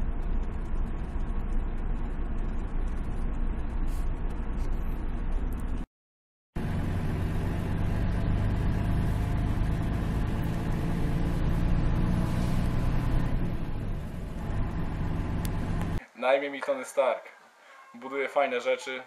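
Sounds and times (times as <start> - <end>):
vehicle engine droning: 0.0 - 5.8, 6.6 - 16.0
road noise: 0.0 - 5.9, 6.6 - 16.2.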